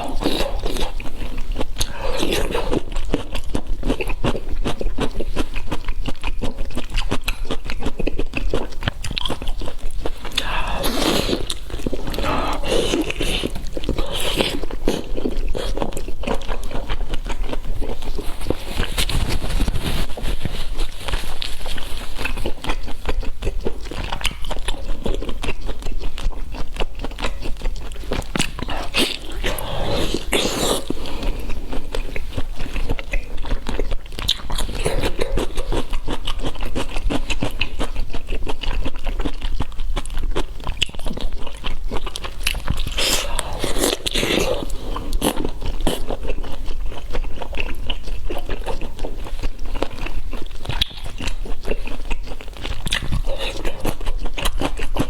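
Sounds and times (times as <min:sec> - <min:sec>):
crunching and chewing food: 0:00.0 - 0:55.0.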